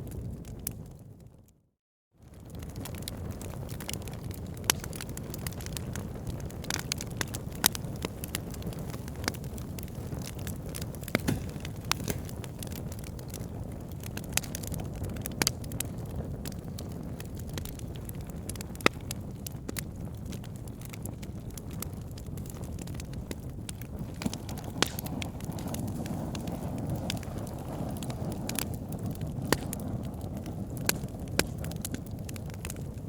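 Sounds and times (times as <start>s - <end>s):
wood fire crackling: 2.2s - 33.0s.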